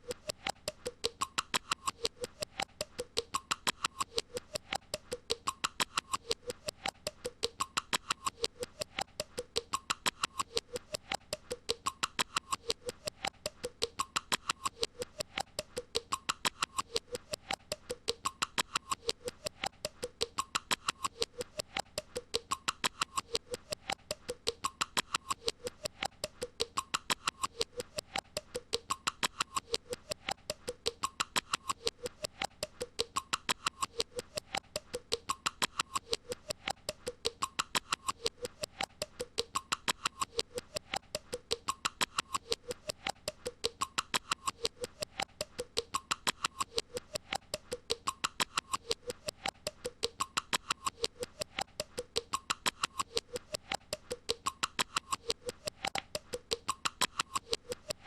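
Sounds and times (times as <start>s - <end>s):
rapid squeaky clicking: 0.0s - 58.0s.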